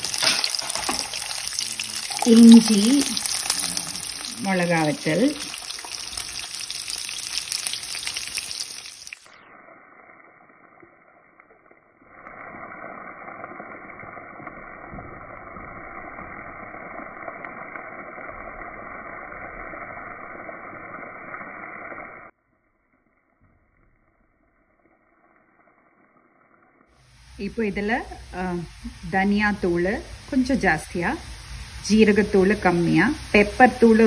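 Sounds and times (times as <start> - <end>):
onions sizzling in hot oil: 0.0 - 22.3, 24.5 - 34.0.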